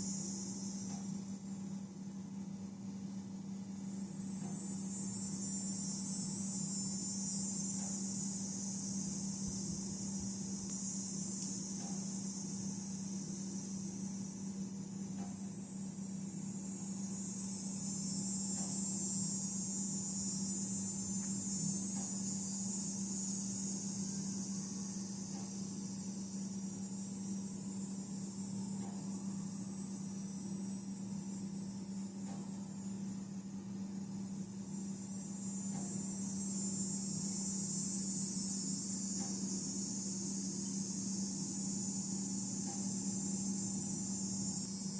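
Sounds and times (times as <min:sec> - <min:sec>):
high-pitched insect chorus: 0:00.0 - 0:44.9
low steady hum: 0:00.0 - 0:44.9.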